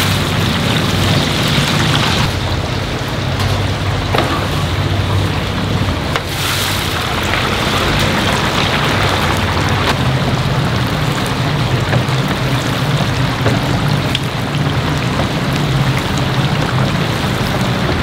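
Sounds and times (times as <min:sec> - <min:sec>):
kitchen rumbling noise: 0:00.0 - 0:18.0.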